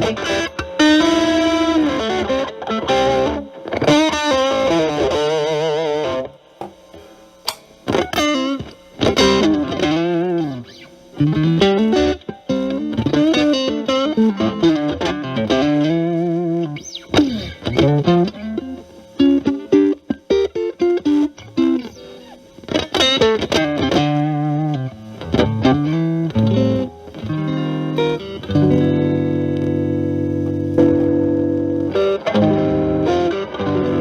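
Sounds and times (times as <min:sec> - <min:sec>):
distorted electric guitar lead: 0:00.0 - 0:34.0.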